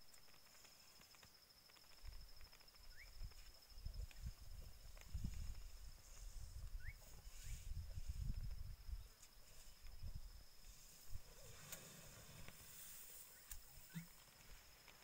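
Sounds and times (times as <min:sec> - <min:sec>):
crackling clicks of grass pulled: 0:00.0 - 0:10.0, 0:10.6 - 0:15.0.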